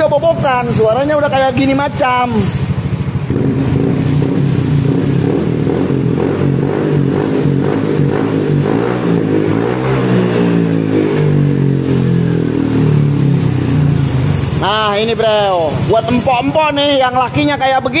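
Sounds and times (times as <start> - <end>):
scooter engine revving: 0.0 - 18.0.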